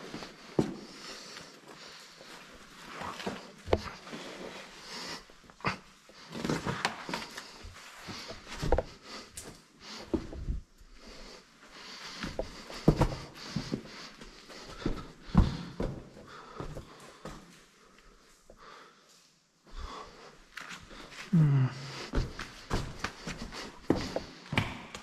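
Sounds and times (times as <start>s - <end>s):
heavy breathing: 0.0s - 25.0s.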